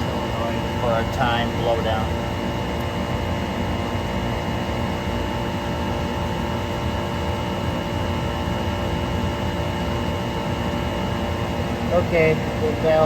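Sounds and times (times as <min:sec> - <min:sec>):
machinery drone with whining tones: 0:00.0 - 0:13.0.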